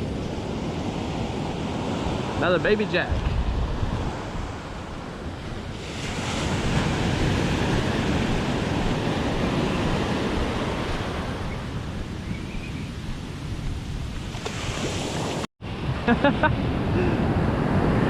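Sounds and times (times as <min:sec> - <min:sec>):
ocean wave breaking: 0:00.0 - 0:12.3, 0:14.0 - 0:18.0
wind on microphone: 0:00.0 - 0:18.0.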